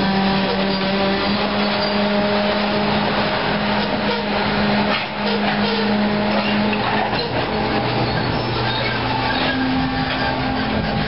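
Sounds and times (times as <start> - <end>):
diesel locomotive drone: 0.0 - 11.0
train wheels clattering on rails: 0.0 - 11.0.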